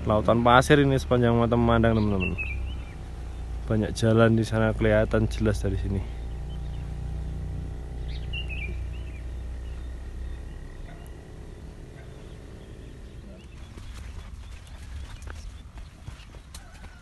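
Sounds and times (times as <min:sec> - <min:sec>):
bird chirp: 0:00.0 - 0:17.0
low engine hum: 0:00.0 - 0:17.0.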